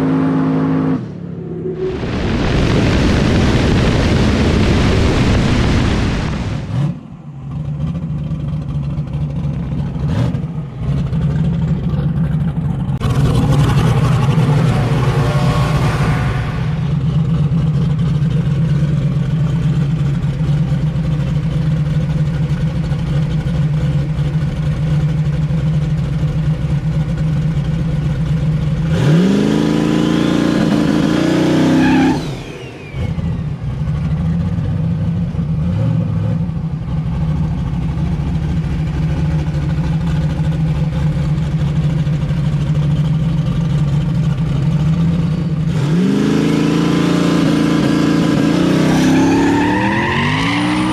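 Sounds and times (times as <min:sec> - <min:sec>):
drag car engine revving: 0:00.0 - 0:50.9.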